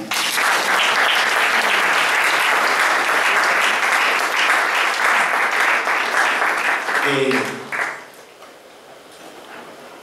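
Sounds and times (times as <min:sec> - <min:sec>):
congregation applauding: 0:00.0 - 0:08.2.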